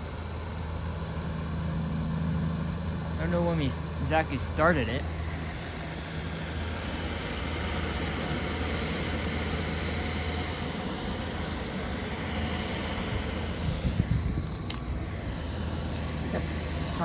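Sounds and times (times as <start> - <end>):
stove burners hissing: 0.0 - 17.0
wind: 0.0 - 17.0.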